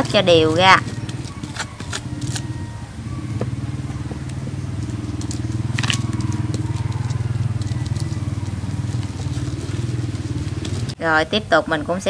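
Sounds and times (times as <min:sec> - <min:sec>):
pulsing low engine-like hum: 0:00.0 - 0:11.6.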